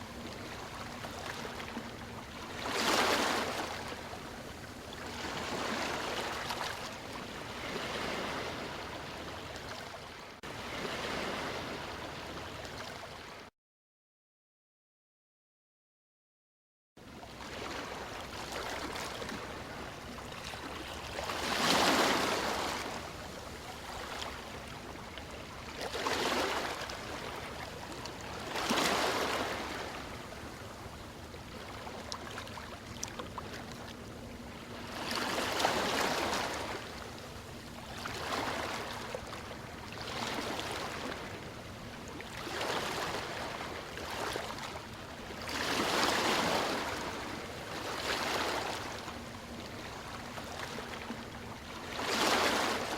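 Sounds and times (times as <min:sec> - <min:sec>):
ocean waves breaking: 0:00.0 - 0:09.9, 0:10.5 - 0:13.3, 0:17.5 - 0:52.9.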